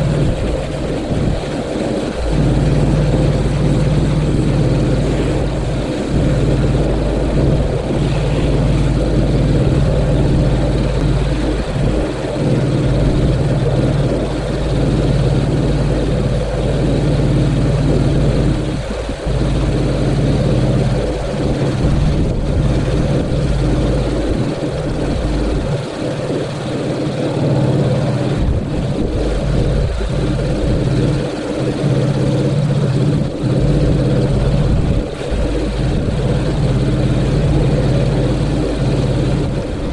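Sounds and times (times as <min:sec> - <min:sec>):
pressure washer droning: 0:00.0 - 0:39.9.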